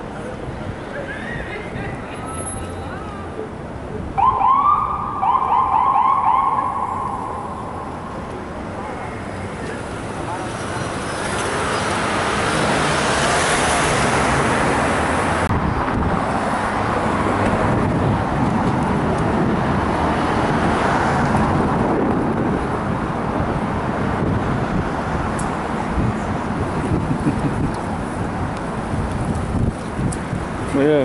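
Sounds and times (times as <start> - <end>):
cars passing: 0.0 - 31.0
road noise: 0.0 - 31.0.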